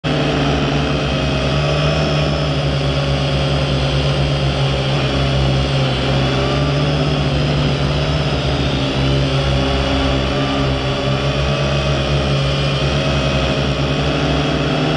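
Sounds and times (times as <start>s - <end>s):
drone motors and propellers humming: 0.0s - 14.9s.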